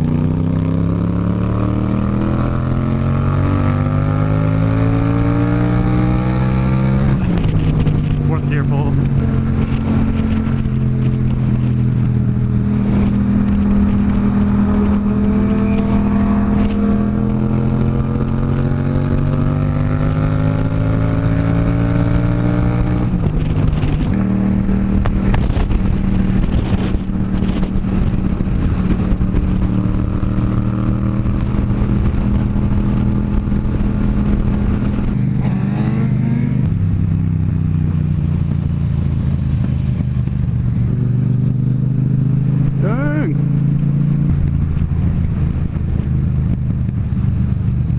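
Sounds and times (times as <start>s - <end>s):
motorcycle engine accelerating: 0.0s - 47.9s
wind noise: 0.0s - 47.9s.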